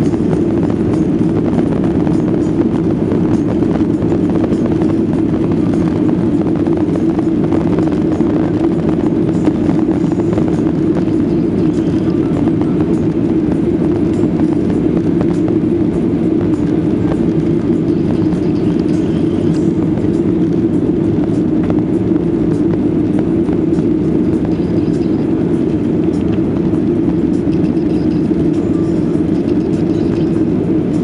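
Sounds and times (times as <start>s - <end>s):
jet engines droning: 0.0s - 31.0s.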